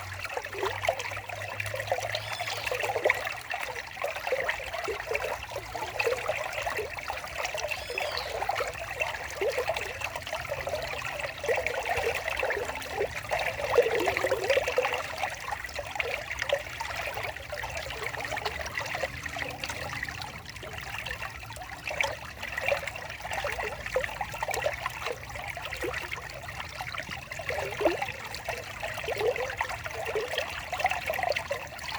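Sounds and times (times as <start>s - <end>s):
stream trickling and babbling: 0.0s - 31.9s.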